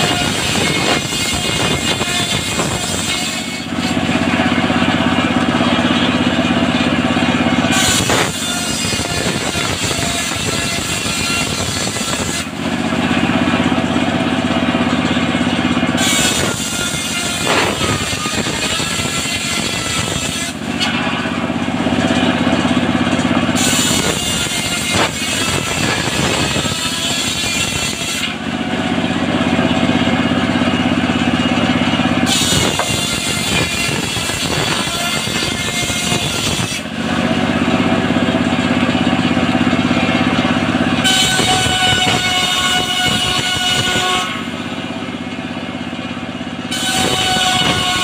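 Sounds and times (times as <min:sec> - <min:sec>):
saw blade cutting wood: 0:00.0 - 0:48.0
saw engine drone: 0:00.0 - 0:48.0.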